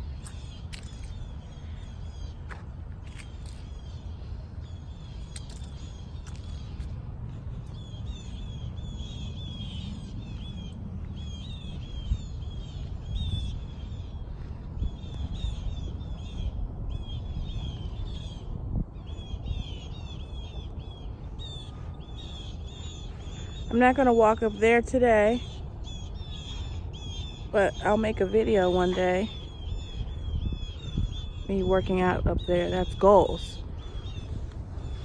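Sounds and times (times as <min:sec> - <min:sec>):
birds chattering: 0:00.0 - 0:35.0
low rumble: 0:00.0 - 0:35.0.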